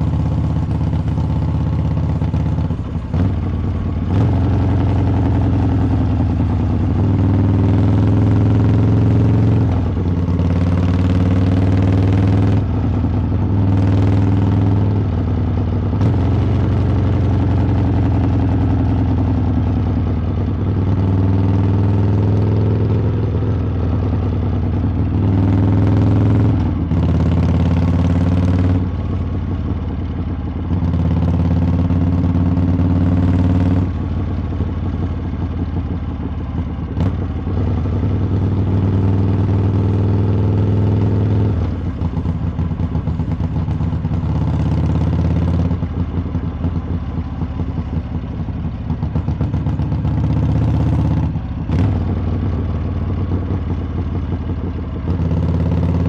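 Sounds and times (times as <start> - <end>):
motorcycle exhaust revving: 0.0 - 56.0.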